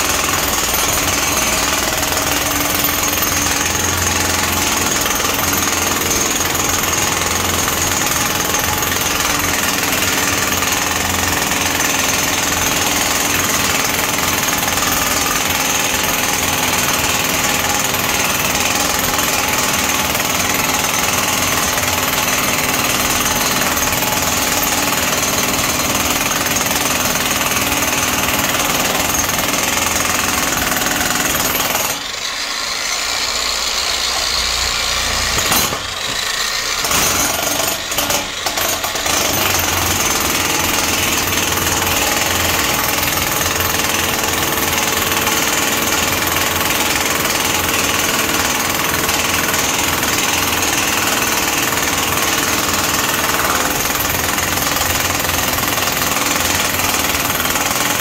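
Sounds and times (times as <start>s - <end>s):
jackhammer breaking tiles: 0.0s - 58.0s.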